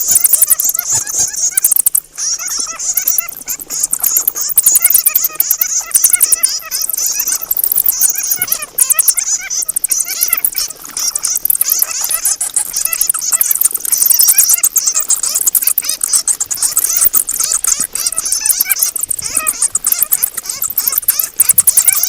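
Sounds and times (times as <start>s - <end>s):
bats chittering and squeaking: 0.0s - 22.0s.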